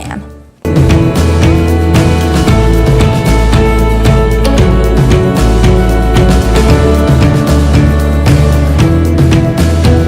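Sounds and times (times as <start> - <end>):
music with steady beat: 0.6 - 10.0.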